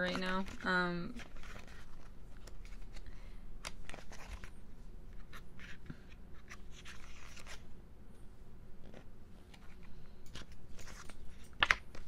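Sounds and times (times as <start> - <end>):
pages turning: 0.0 - 7.6, 8.8 - 12.0.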